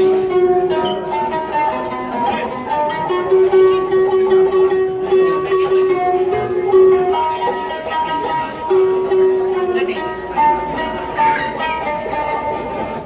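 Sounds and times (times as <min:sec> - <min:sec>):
zither melody with tremolo: 0:00.0 - 0:13.0.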